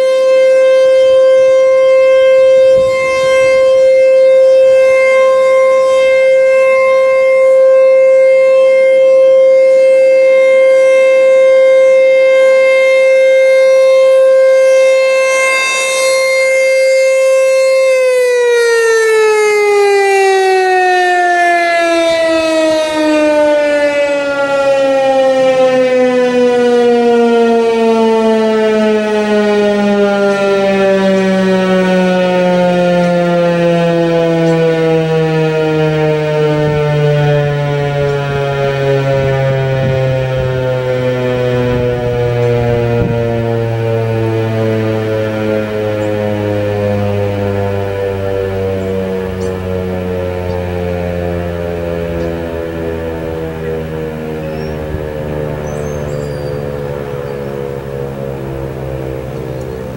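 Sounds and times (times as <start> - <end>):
rotating siren wailing: 0.0 - 59.9
siren winding down: 0.0 - 59.9.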